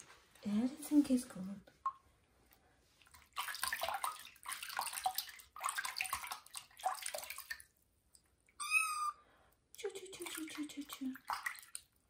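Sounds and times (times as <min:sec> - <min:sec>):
water splashing in a sink: 0:01.0 - 0:08.6, 0:09.8 - 0:12.0.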